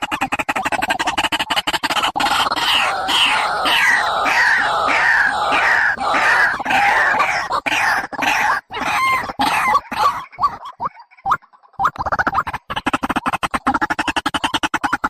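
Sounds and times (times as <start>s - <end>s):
bird calling with rattle: 0.0s - 15.0s.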